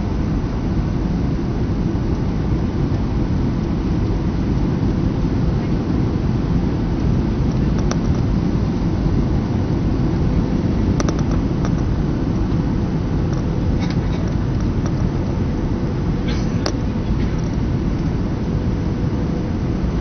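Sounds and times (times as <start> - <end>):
faint steady hum: 0.0 - 20.0
jet engines rumbling: 0.0 - 20.0.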